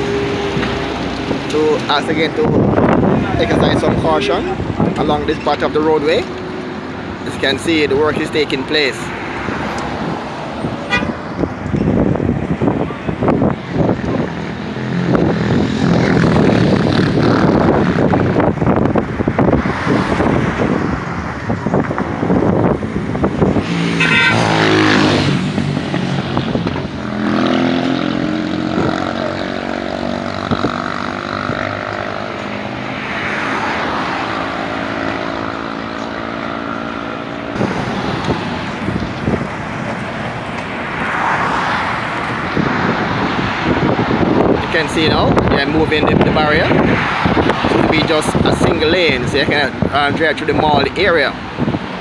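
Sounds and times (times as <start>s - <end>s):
vehicle passing by: 0.0s - 52.0s.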